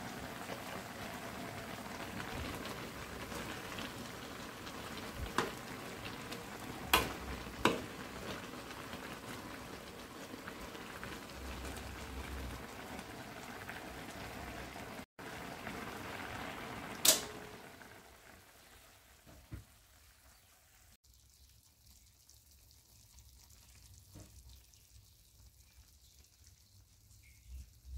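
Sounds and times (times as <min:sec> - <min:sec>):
soup simmering and bubbling: 0:00.0 - 0:27.9.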